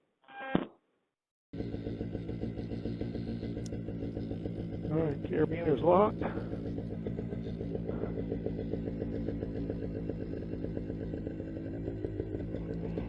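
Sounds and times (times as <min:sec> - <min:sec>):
small two-stroke engine idling: 0:01.6 - 0:13.0.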